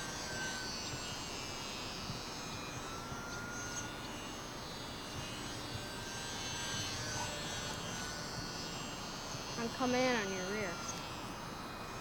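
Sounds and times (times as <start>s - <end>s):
insects buzzing: 0.0s - 12.0s
model plane motor whine: 0.0s - 12.0s.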